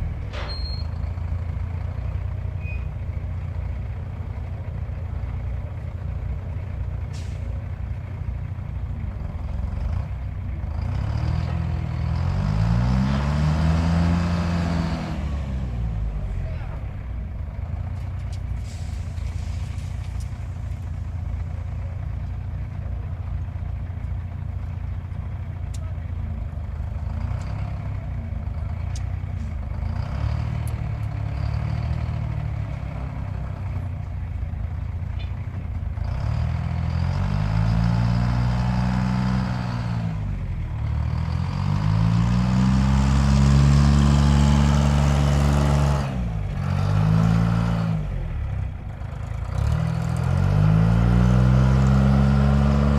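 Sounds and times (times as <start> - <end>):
car engine idling and revving: 0.0 - 52.9.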